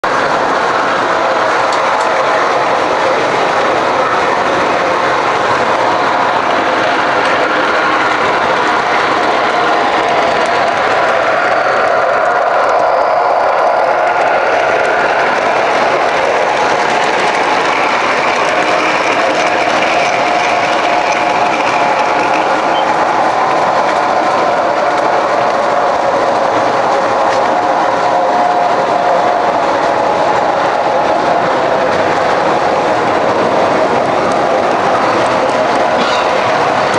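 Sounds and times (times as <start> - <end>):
model train rolling on track: 0.0 - 36.9
wheels clicking on rails: 0.0 - 36.9.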